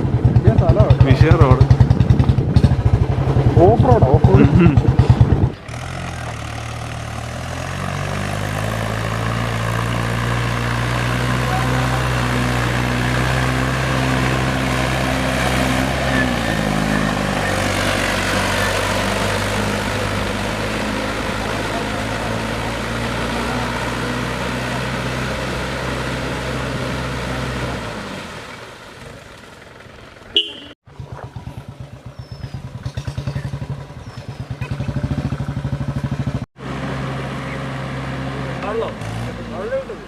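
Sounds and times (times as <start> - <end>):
motorcycle engine running: 0.0 - 25.6, 29.0 - 39.9
road and wind noise: 0.0 - 40.0.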